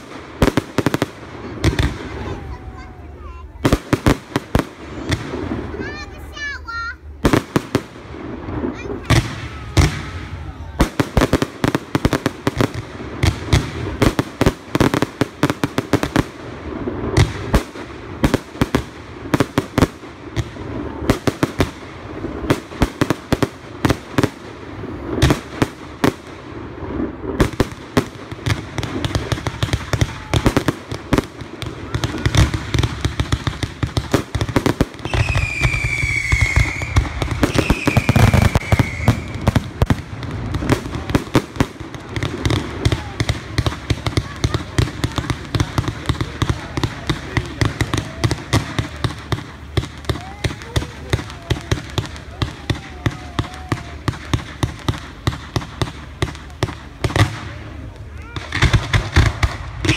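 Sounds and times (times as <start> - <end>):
fireworks bangs and crackles: 0.0 - 59.9
whistling fireworks: 0.0 - 59.9.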